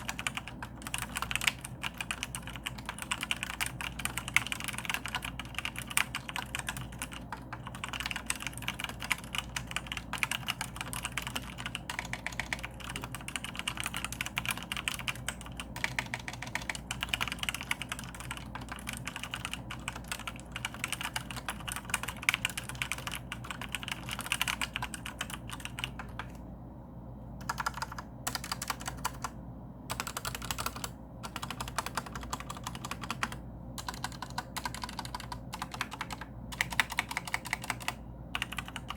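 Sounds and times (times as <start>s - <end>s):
mechanical keyboard typing: 0.0s - 26.4s, 27.4s - 38.9s.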